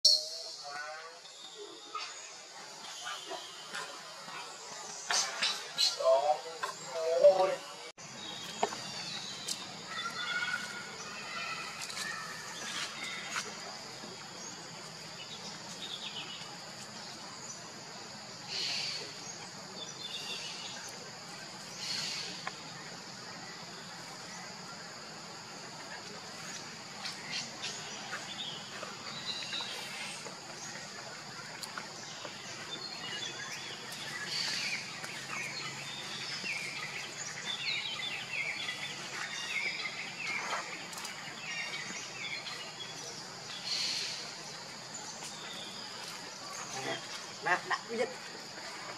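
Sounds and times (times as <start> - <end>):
loud bird calls: 0.1 - 17.6, 18.4 - 48.9.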